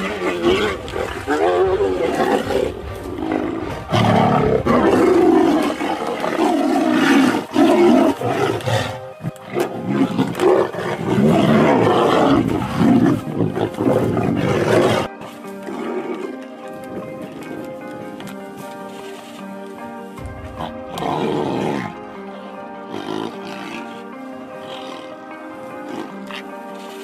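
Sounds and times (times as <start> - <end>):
tigers roaring: 0.0 - 17.1, 20.6 - 26.5.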